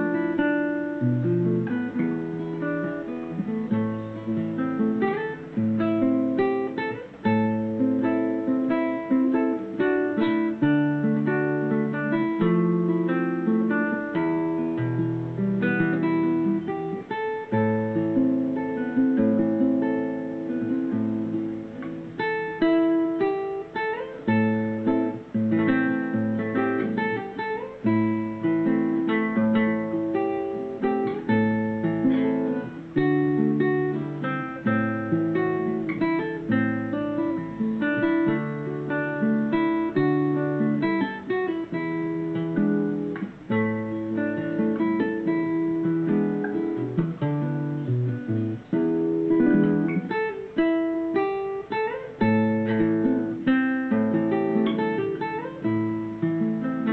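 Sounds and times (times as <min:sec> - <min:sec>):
classical guitar fingerstyle: 0:00.0 - 0:56.9.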